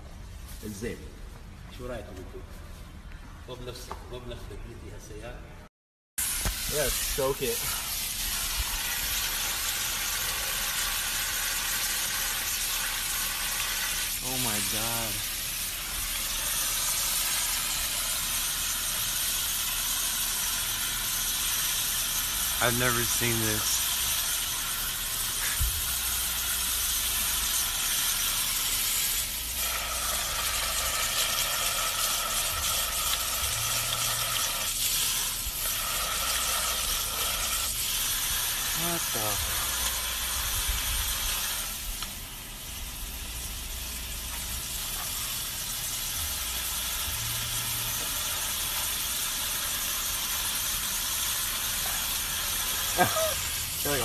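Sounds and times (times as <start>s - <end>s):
hose nozzle spray hissing: 6.2s - 54.0s.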